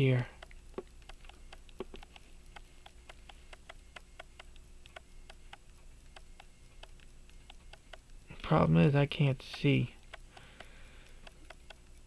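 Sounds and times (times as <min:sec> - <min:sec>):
pocket watch ticking: 0:00.2 - 0:12.0.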